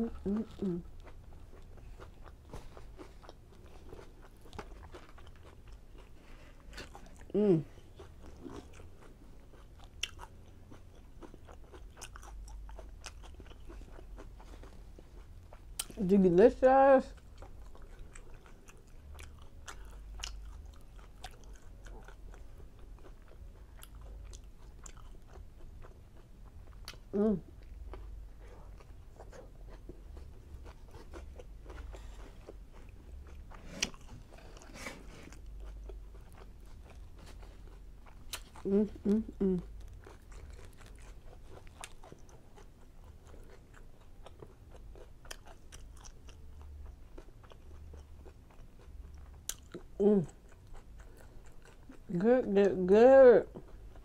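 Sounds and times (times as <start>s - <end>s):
person chewing food: 0.0s - 16.0s, 17.1s - 52.1s, 53.5s - 54.0s.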